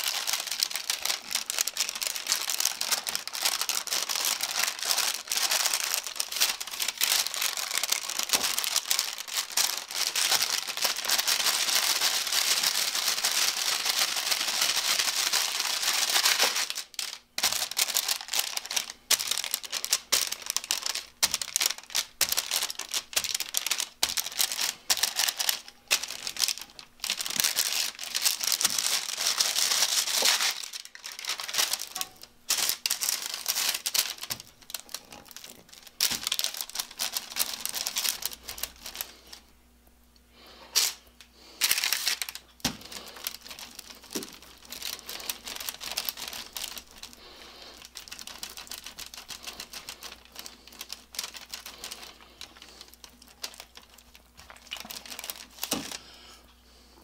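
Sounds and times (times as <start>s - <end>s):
paper crinkling and rustling: 0.0s - 39.4s, 41.6s - 56.1s.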